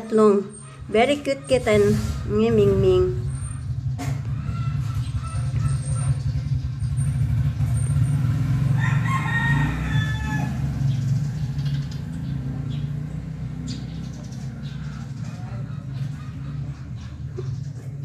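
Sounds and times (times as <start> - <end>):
drawn-out animal call: 0.0 - 18.0.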